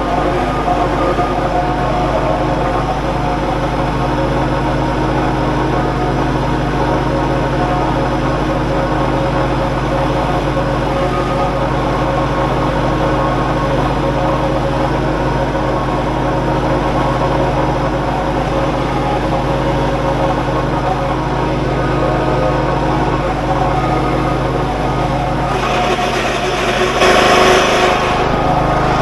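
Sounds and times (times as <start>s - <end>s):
lawn tractor engine running: 0.0s - 29.0s.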